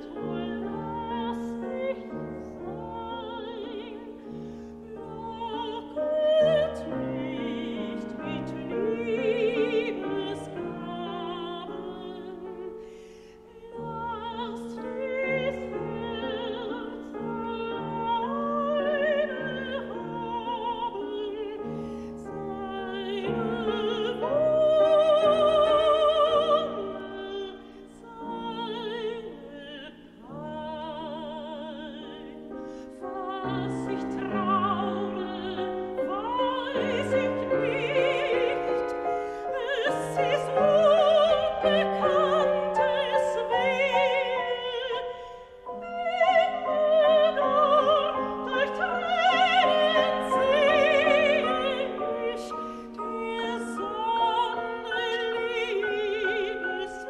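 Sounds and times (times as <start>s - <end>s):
woman singing operatically: 0.0s - 12.8s, 13.5s - 57.0s
grand piano accompaniment: 0.0s - 57.0s.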